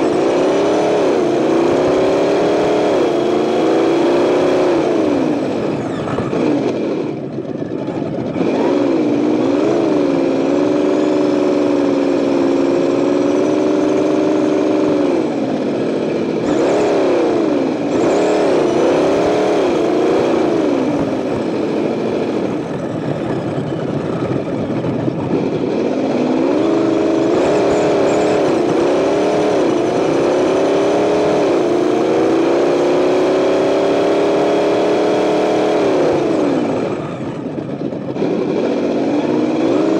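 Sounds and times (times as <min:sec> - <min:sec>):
simulated engine revving: 0:00.0 - 0:39.9
tyres on asphalt: 0:00.0 - 0:39.9.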